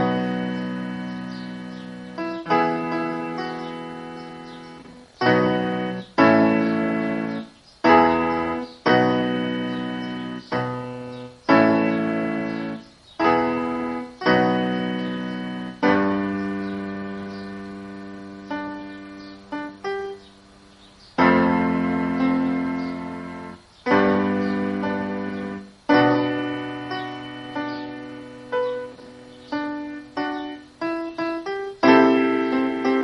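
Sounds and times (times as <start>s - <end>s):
solo piano chords: 0.0s - 33.0s.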